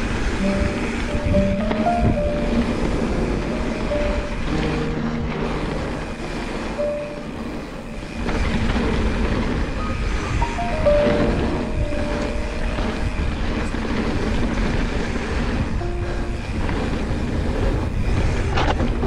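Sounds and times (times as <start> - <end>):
slow melody of held notes: 0.0 - 18.4
steady rushing noise: 0.0 - 19.0.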